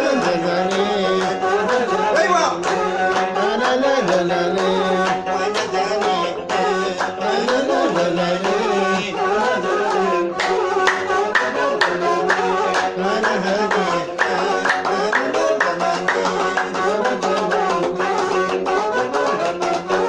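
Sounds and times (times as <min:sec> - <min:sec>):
bowed string instrument: 0:00.0 - 0:20.0
man singing: 0:00.0 - 0:20.0
men clapping in rhythm: 0:00.0 - 0:20.0
plucked lute: 0:00.0 - 0:20.0.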